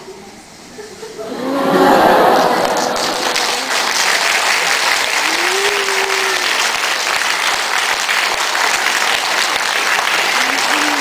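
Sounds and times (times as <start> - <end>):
audience clapping: 1.9 - 11.0.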